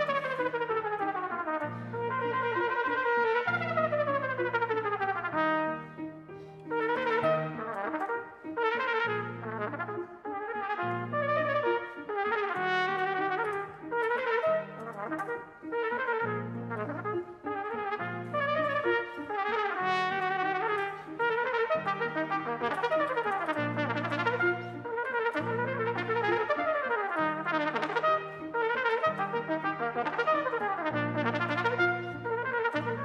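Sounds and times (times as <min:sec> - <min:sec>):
solo trumpet rapid runs: 0:00.0 - 0:06.0, 0:06.7 - 0:33.0
piano accompaniment: 0:00.0 - 0:33.0.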